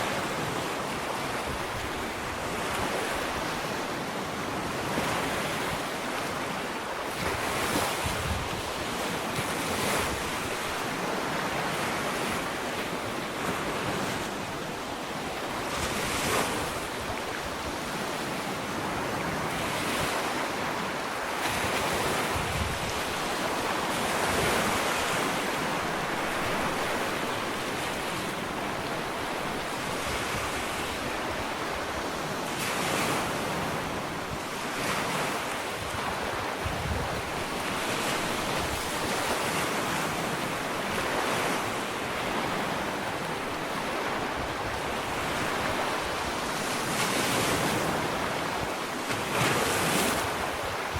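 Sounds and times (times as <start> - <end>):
wind on microphone: 0.0 - 12.6, 15.6 - 50.9
waves washing onto beach: 0.0 - 50.9.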